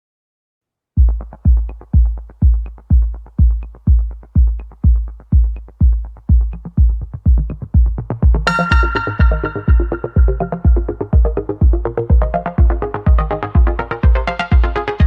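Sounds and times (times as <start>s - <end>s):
deep kick drum beat: 1.0s - 15.0s
synth chords: 1.0s - 15.0s.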